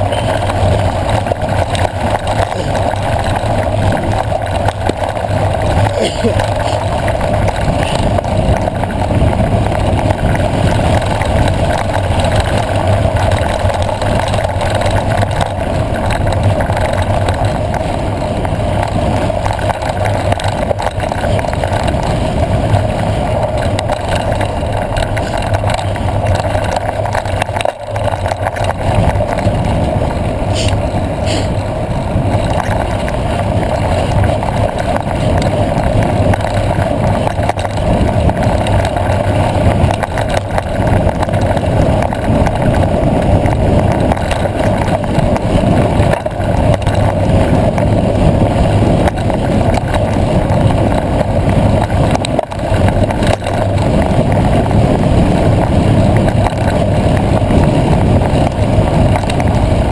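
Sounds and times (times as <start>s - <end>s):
mountain bike rumble and rattle: 0.0s - 59.9s.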